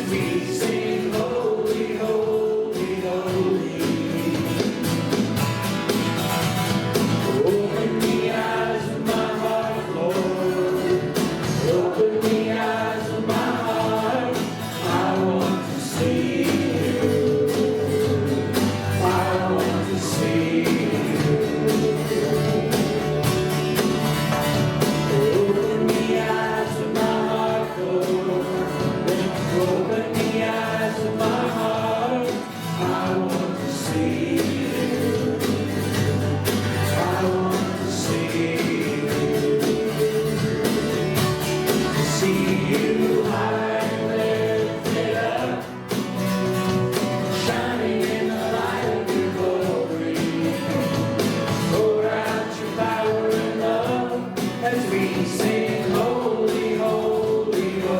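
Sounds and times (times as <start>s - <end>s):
guitar: 0.0s - 57.9s
voices singing: 0.0s - 57.9s.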